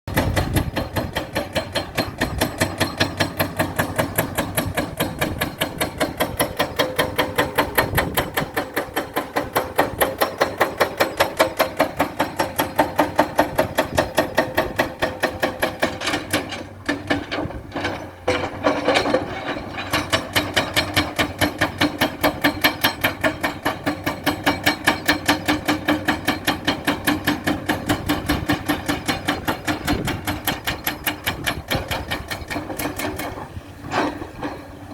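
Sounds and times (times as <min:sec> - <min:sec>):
rapid mechanical knocking: 0:00.1 - 0:17.5, 0:20.1 - 0:33.4.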